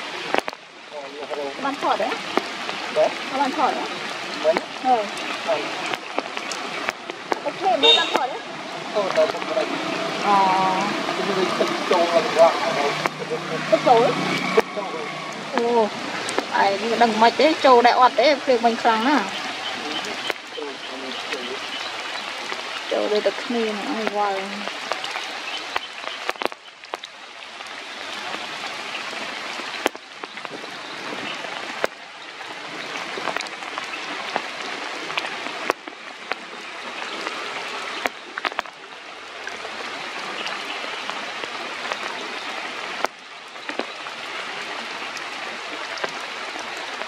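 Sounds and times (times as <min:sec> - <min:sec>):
raindrops ticking close by: 0:00.0 - 0:47.0
steady rainfall: 0:00.0 - 0:47.0.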